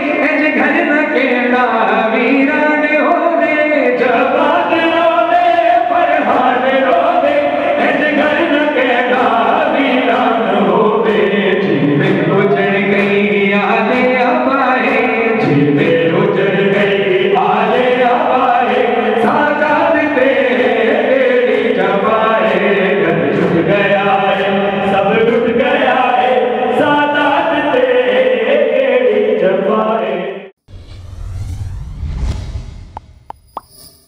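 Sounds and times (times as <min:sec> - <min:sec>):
man singing into a microphone: 0:00.0 - 0:30.5.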